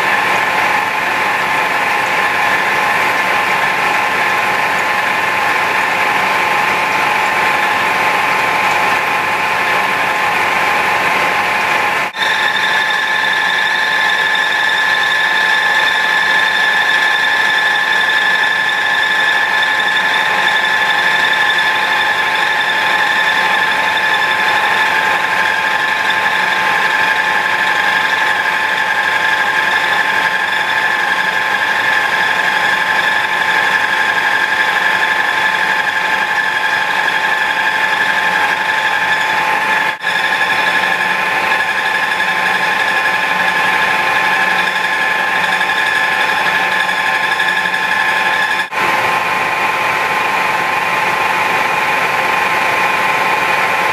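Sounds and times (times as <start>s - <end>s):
milling machine whine: 0.0s - 53.9s
noisy machine hum: 0.0s - 53.9s.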